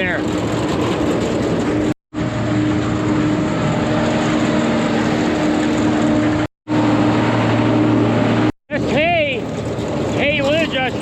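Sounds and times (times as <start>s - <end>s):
farm machinery engine droning: 0.0s - 11.0s.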